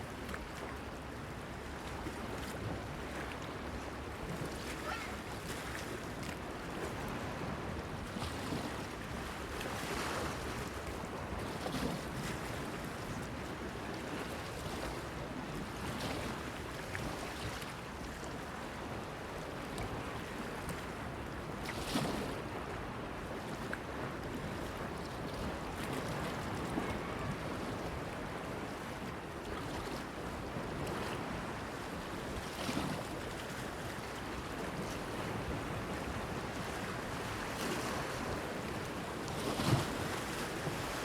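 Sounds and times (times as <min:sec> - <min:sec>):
wind: 0:00.0 - 0:41.0.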